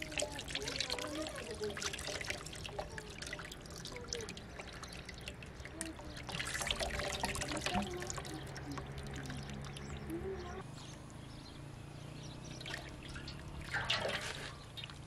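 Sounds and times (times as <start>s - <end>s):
water trickling and splashing: 0.0s - 11.3s, 12.0s - 15.0s.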